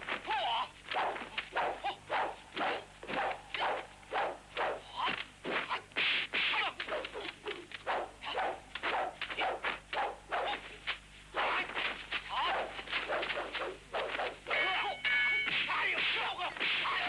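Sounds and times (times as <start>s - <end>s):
whip-like smacks and swishes: 0.0s - 14.4s, 15.5s - 17.0s.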